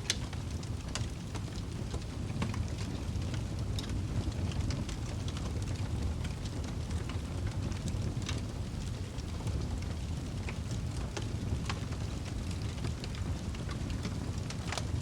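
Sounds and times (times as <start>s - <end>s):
flames rumbling: 0.0s - 15.0s
logs crackling and popping: 0.0s - 15.0s.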